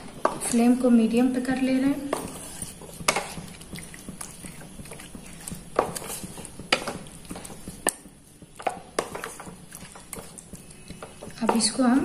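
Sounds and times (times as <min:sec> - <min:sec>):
wooden spatula scraping a pan: 0:01.6 - 0:12.0.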